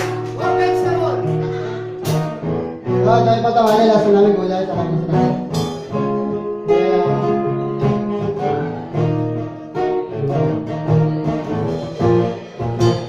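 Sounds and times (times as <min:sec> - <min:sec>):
guitar: 0:00.0 - 0:13.0
live band playing: 0:00.0 - 0:13.0.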